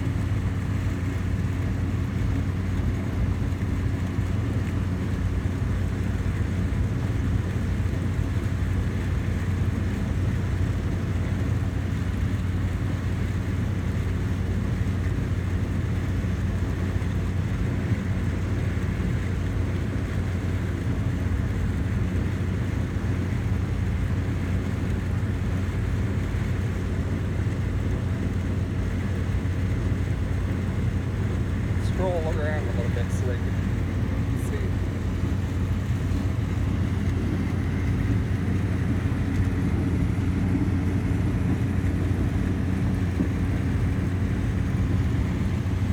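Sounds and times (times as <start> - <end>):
combine harvester drone from cab: 0.0 - 45.9.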